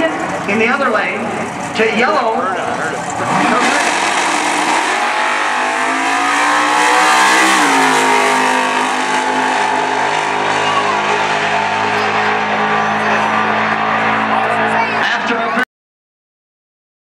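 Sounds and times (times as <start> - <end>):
race car accelerating: 0.0 - 15.6.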